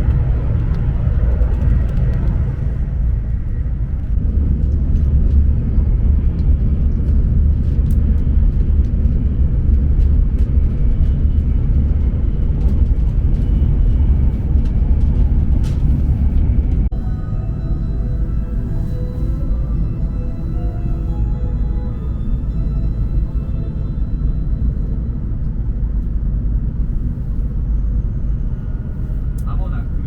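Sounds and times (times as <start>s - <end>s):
train running low rumble: 0.0s - 30.0s.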